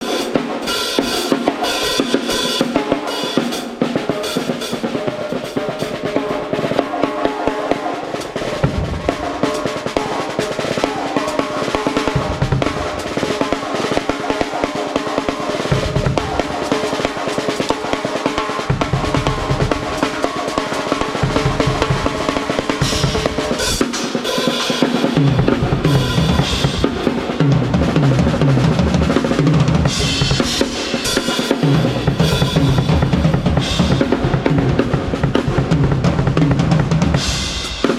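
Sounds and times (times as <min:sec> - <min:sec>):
cymbals ringing: 0:00.0 - 0:27.5, 0:29.8 - 0:35.6
snare and tom strokes: 0:00.0 - 0:37.9.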